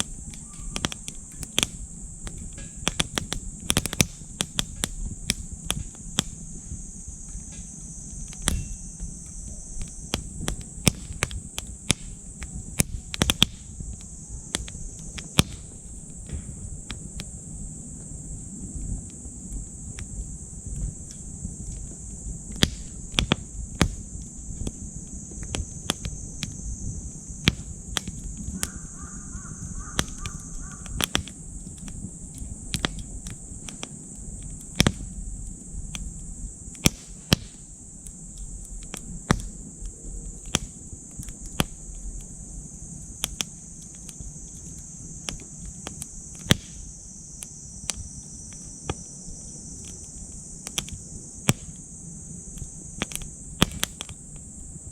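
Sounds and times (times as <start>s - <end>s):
high insect chorus: 0.0s - 54.9s
wood fire crackling and popping: 0.0s - 54.9s.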